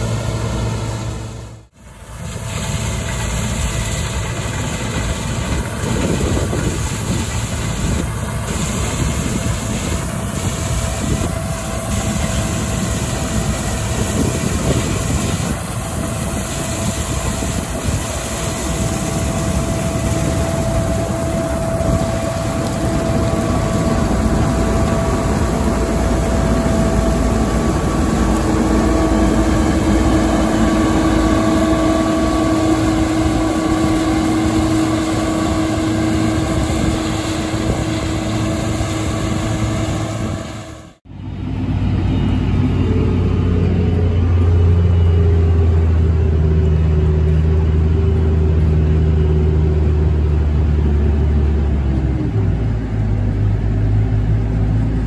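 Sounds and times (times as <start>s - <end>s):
combine harvester rumbling: 0.0s - 55.0s.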